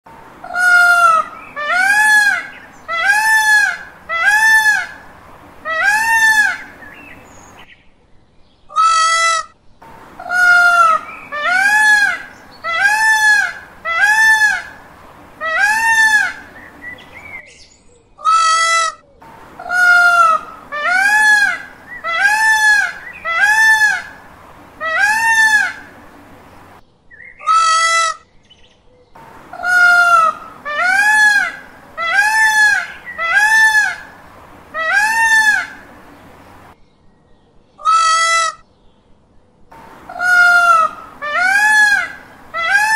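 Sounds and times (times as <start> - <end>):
peacock calling: 0.3 - 7.7, 8.7 - 17.6, 18.2 - 28.3, 29.1 - 36.8, 37.8 - 38.7, 39.7 - 42.9.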